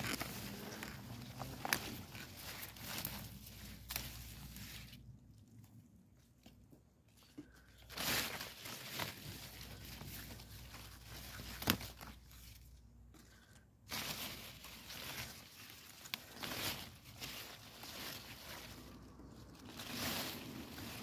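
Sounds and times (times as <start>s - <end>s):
leaves rustling: 0.0s - 5.0s, 7.8s - 12.7s, 13.9s - 21.0s.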